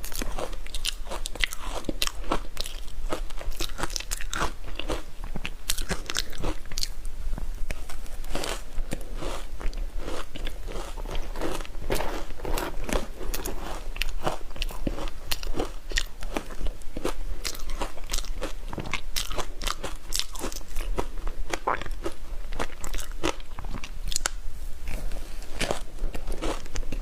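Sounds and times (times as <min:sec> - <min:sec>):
ice being chewed: 0:00.0 - 0:07.0, 0:07.7 - 0:24.3, 0:24.9 - 0:27.0.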